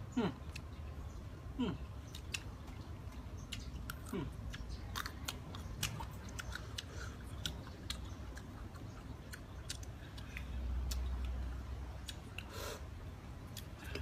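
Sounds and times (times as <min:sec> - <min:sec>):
crunchy mango being chewed: 0:01.7 - 0:14.0.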